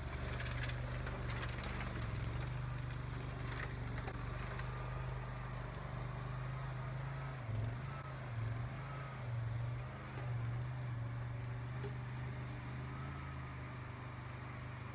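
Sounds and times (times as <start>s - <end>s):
skid steer engine running: 0.0s - 14.9s.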